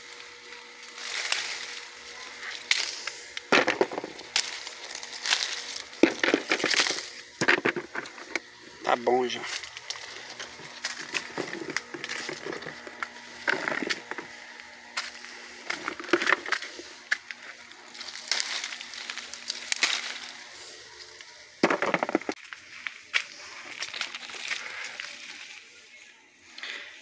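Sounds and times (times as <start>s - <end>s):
leafy branches rustling: 0.0s - 21.6s, 22.3s - 27.0s
dry leaves and twigs crunching: 0.0s - 27.0s.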